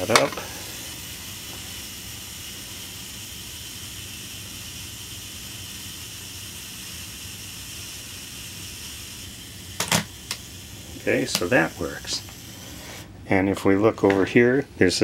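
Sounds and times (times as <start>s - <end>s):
self-timer buzzing: 0.0s - 13.2s.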